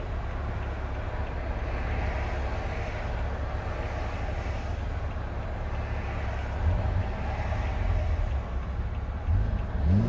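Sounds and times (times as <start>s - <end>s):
road and tyre noise: 0.0s - 10.0s.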